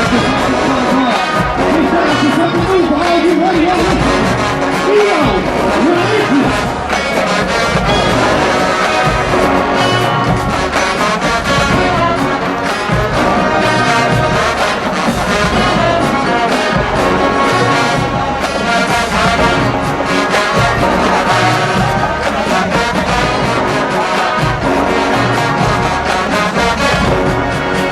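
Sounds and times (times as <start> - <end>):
marching band playing loudly: 0.0 - 27.9.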